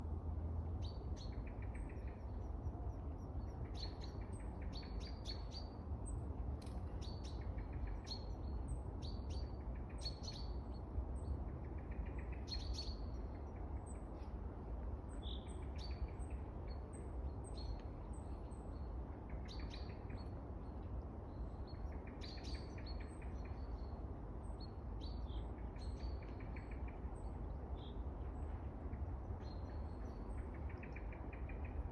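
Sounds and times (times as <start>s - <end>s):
low background noise: 0.0s - 31.9s.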